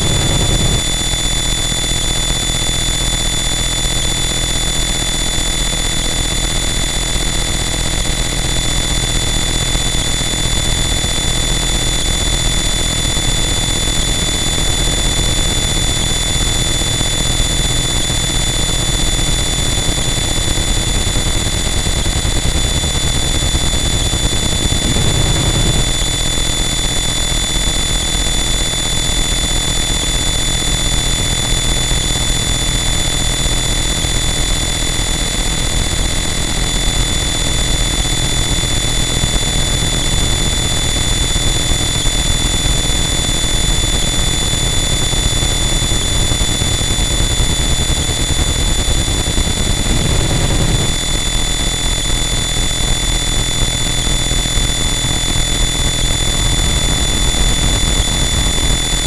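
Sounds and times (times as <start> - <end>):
loud distorted noise wall: 0.0 - 4.4, 8.0 - 59.0.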